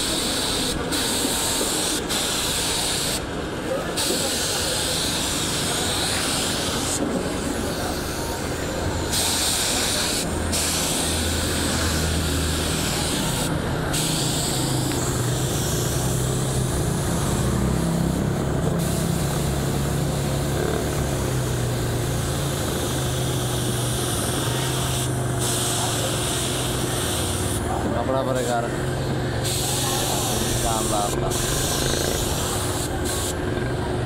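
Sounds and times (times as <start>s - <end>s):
paint spray gun hissing: 0.0s - 3.3s, 3.9s - 33.7s
air compressor running: 0.0s - 34.0s.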